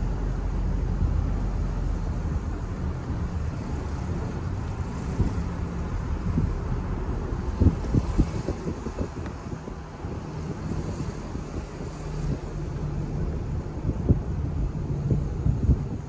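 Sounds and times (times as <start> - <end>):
car road and engine rumble: 0.0 - 16.0
wind buffeting microphone: 0.0 - 16.0.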